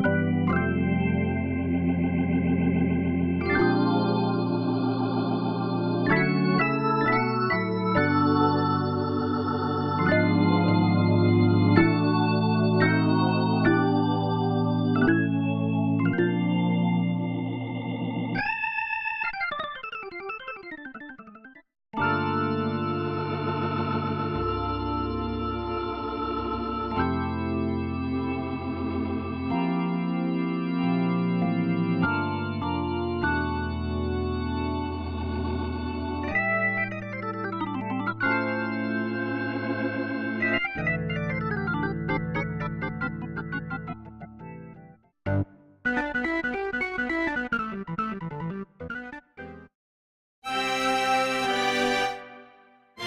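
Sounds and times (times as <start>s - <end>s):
organ sustained chords: 0.0s - 19.3s, 22.0s - 45.4s, 50.4s - 52.6s.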